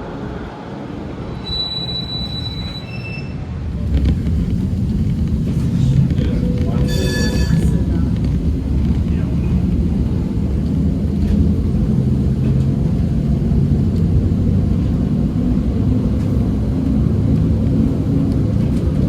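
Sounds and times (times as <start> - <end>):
tram rumbling: 0.0 - 19.0.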